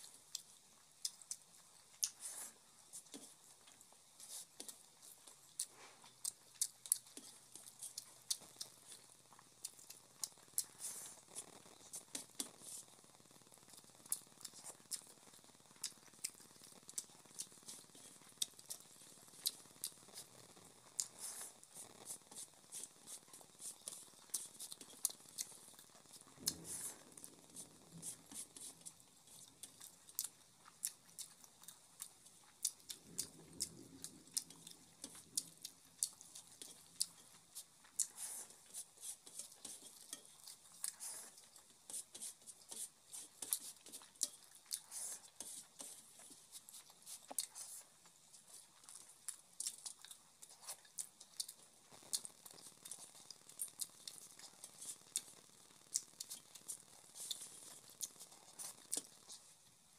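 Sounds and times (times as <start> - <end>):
chewing: 0.0 - 59.8.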